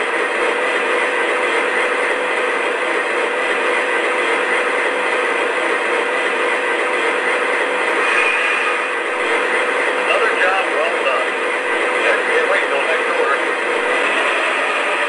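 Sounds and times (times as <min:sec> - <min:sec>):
model train diesel engine idling: 0:00.0 - 0:15.0.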